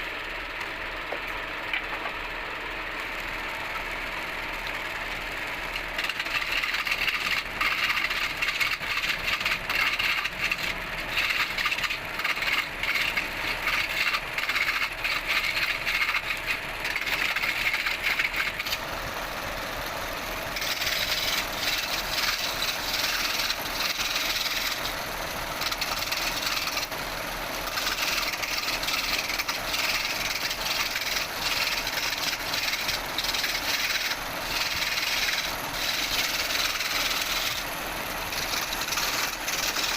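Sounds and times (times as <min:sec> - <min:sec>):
lathe tool cutting spinning wood: 0:03.1 - 0:39.9.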